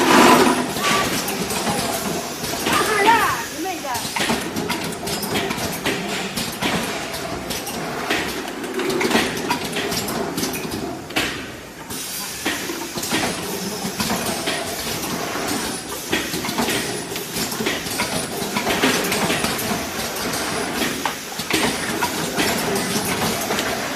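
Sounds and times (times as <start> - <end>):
filling machine clattering: 0.0 - 10.8, 11.9 - 23.9.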